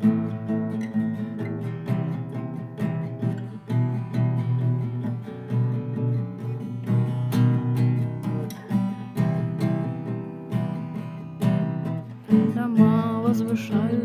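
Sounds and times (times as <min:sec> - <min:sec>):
strummed acoustic guitar chords: 0:00.0 - 0:14.0.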